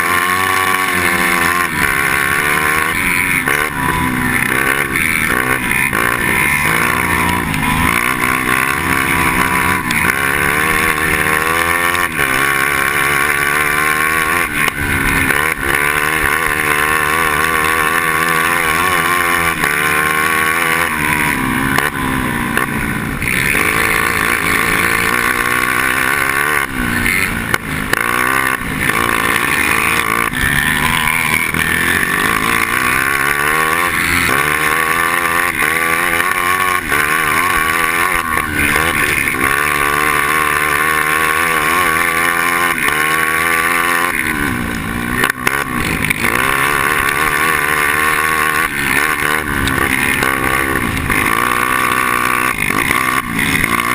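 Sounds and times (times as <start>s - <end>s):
two-stroke kart engine revving: 0.0s - 53.9s.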